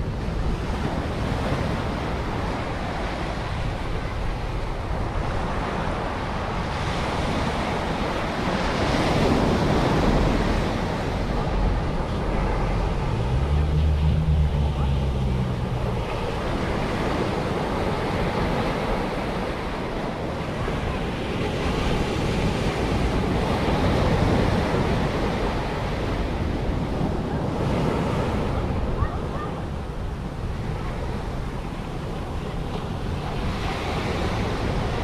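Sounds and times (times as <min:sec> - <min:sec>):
ocean surf breaking: 0:00.0 - 0:35.0.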